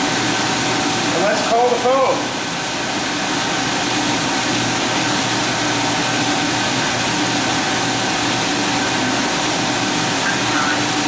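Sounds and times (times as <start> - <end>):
wash pump motor hum: 0.0 - 11.0.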